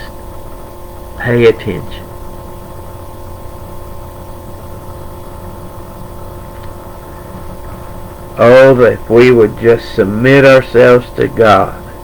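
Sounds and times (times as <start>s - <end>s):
steady hum with tones: 0.0s - 12.0s.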